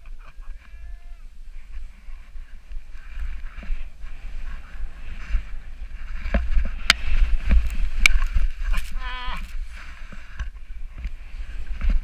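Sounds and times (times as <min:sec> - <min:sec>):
wind buffeting microphone: 0:00.0 - 0:12.0
snowboard sliding through snow: 0:01.4 - 0:12.0.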